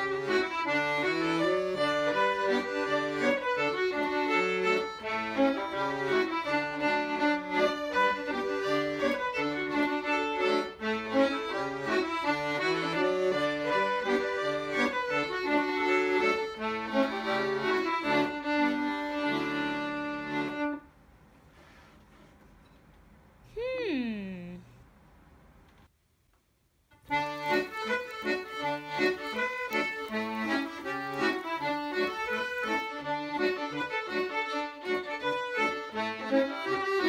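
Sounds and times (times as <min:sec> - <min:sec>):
fiddle playing: 0:00.0 - 0:20.8, 0:27.1 - 0:37.0
button accordion: 0:00.0 - 0:20.9, 0:27.0 - 0:37.0.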